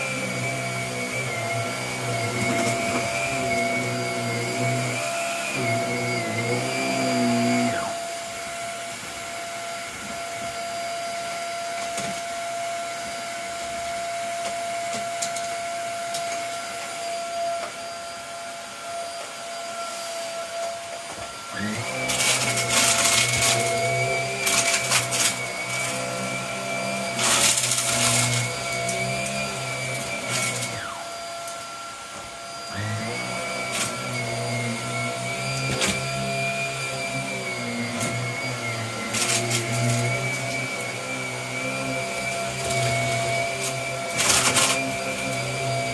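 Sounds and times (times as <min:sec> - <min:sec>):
vacuum cleaner motor whining: 0:00.0 - 0:45.9.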